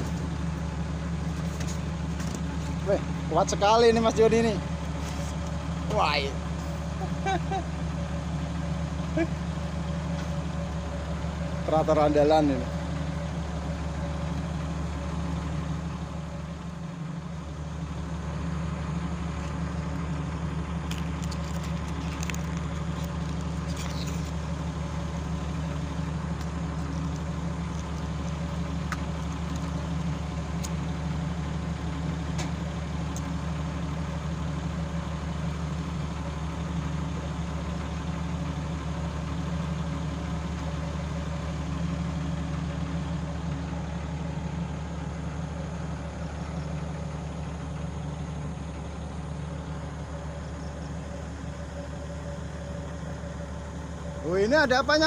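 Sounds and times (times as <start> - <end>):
excavator diesel engine idling: 0.0 - 55.0.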